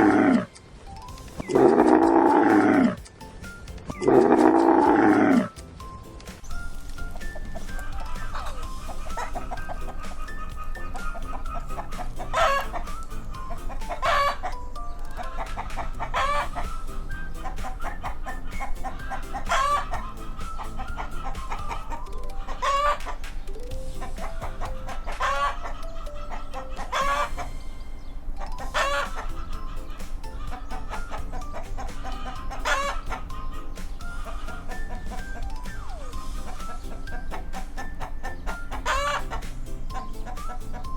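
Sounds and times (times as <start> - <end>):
chickens clucking: 0.0 - 6.5, 7.1 - 40.9
background music: 0.0 - 40.9.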